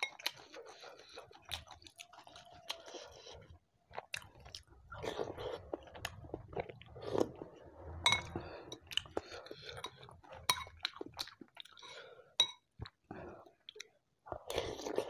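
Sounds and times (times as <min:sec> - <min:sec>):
chewing with wet mouth noises: 0:00.0 - 0:15.0.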